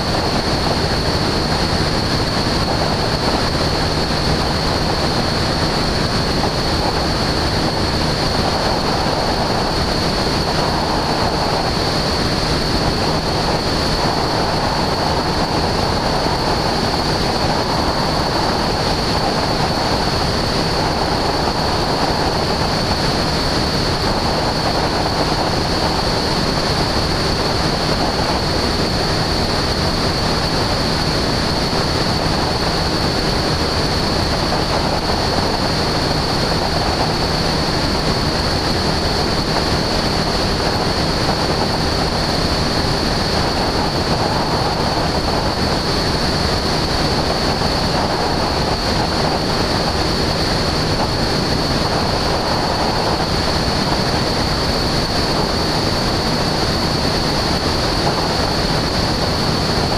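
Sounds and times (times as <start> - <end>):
light aircraft engine and propeller: 0.0 - 59.9
steady high whine: 0.0 - 59.9
wind rushing over microphone: 0.0 - 59.9.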